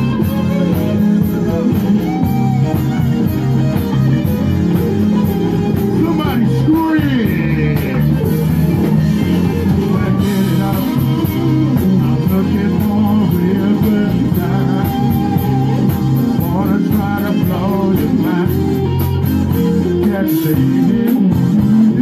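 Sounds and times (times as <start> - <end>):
drum kit cymbals: 0.0 - 22.0
electric bass low notes: 0.0 - 22.0
sliding melody line: 0.0 - 22.0.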